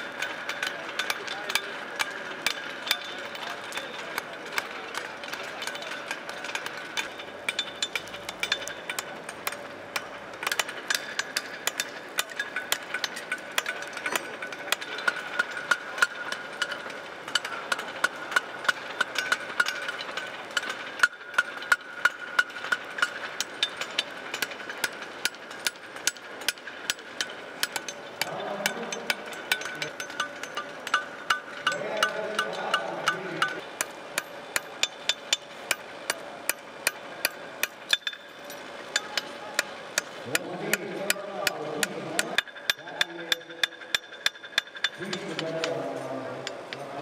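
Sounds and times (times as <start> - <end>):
hammers forging on anvils: 0.0 - 47.0
steady metallic ring: 0.0 - 47.0.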